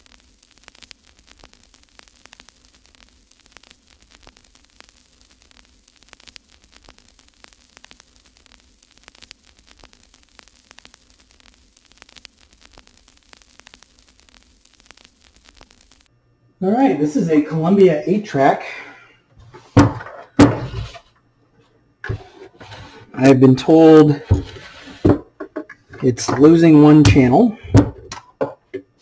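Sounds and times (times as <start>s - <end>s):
crackling static clicks and pops: 0.0s - 29.0s
low steady hum: 3.1s - 29.0s.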